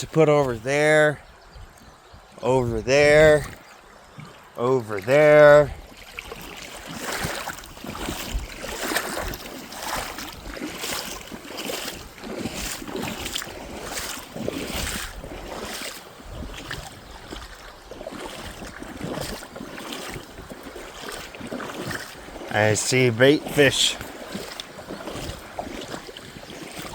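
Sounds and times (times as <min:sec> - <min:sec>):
wading steps splashing in water: 0:02.8 - 0:26.9.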